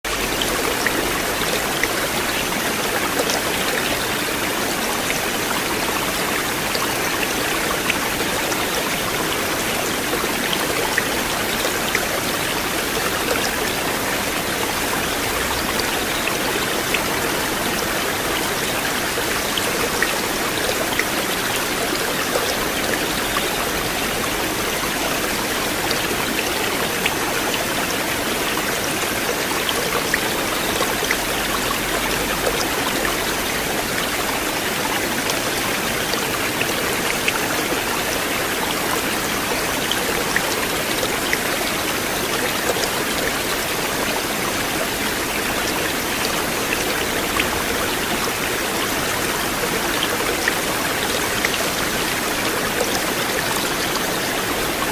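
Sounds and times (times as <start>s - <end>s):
river water rushing: 0.1s - 54.9s.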